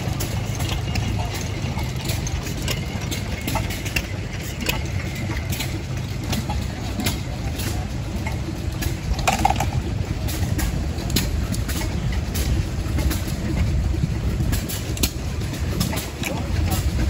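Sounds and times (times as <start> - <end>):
stationary gas engine running: 0.0 - 17.0.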